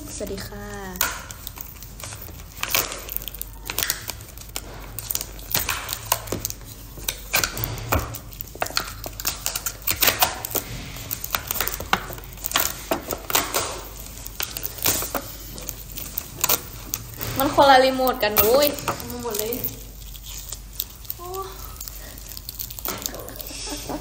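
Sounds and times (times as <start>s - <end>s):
plastic food boxes clicking and crinkling: 0.0s - 24.0s.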